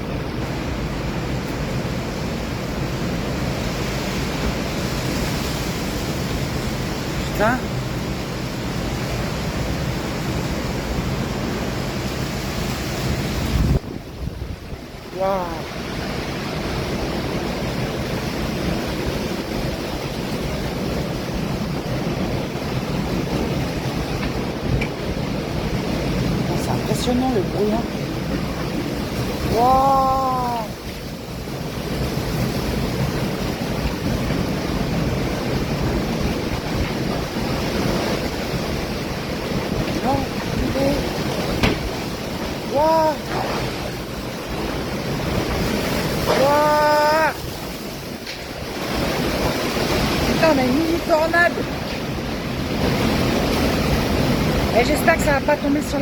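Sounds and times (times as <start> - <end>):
strong wind blowing: 0.0 - 56.0.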